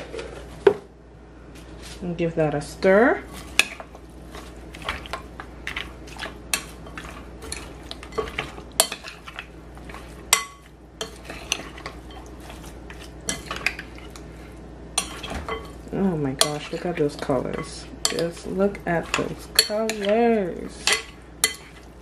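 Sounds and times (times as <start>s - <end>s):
food being stirred: 2.8s - 22.0s.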